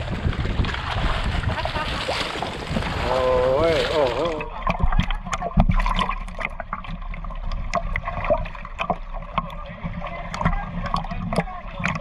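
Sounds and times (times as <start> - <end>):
fish splashing and popping: 0.0 - 12.0
water sloshing and gurgling: 0.0 - 12.0.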